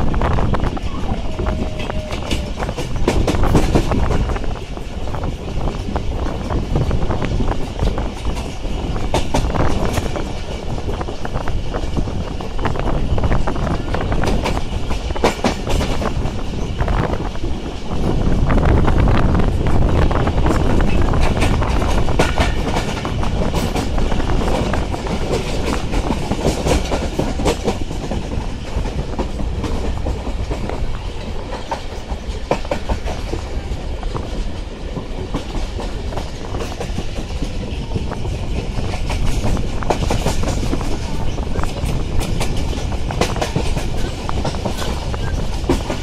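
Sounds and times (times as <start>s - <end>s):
train wheels rumbling: 0.0s - 46.0s
clacking over rail joints: 1.4s - 12.6s, 13.8s - 18.2s, 19.5s - 46.0s.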